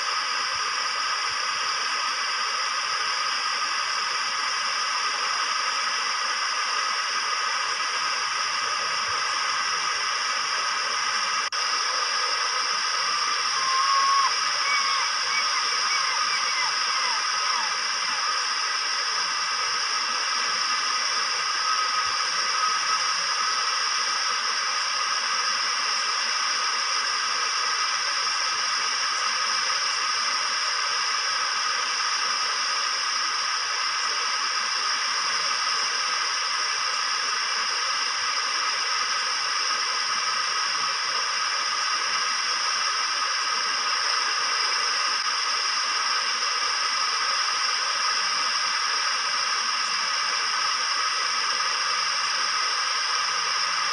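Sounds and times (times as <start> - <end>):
steady hiss: 0.0 - 53.9.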